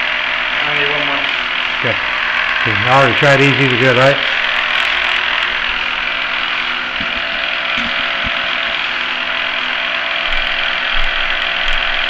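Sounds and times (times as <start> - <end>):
key duplicating machine whirring: 0.0 - 12.0.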